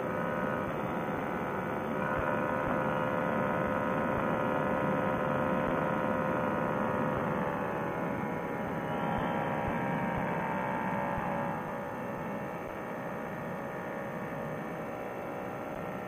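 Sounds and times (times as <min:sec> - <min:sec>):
muffled engine and propeller drone: 0:00.0 - 0:16.0.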